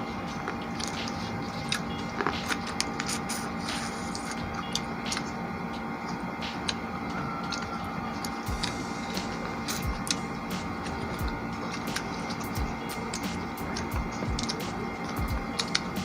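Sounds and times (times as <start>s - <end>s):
steady low hum: 0.0s - 16.0s
wet chewing and squishing: 0.3s - 5.4s, 6.1s - 16.0s.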